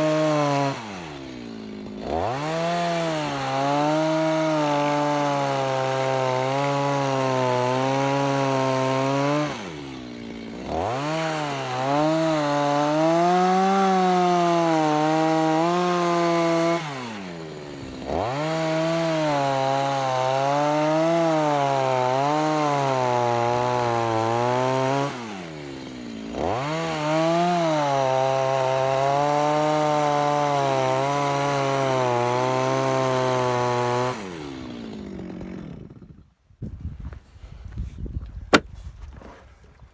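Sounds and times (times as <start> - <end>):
chainsaw cutting log: 0.0 - 36.4, 38.5 - 39.5.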